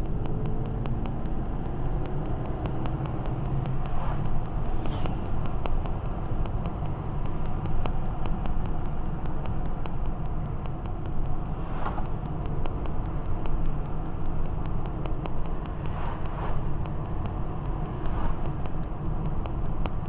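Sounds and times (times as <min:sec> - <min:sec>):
road and engine noise in car: 0:00.0 - 0:20.0.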